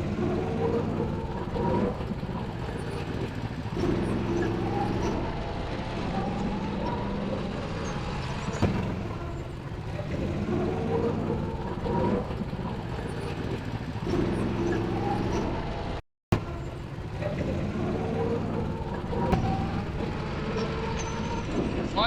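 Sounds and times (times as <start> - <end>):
go-kart engines revving: 0.0 - 22.0.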